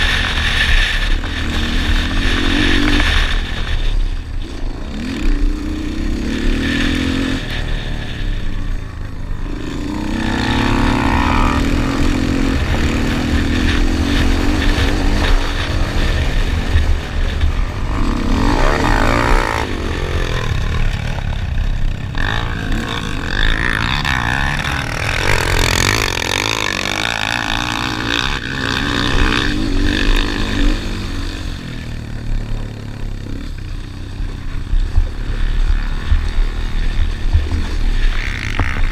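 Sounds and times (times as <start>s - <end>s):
low wind rumble: 0.0s - 38.9s
quad engine revving: 0.0s - 38.9s.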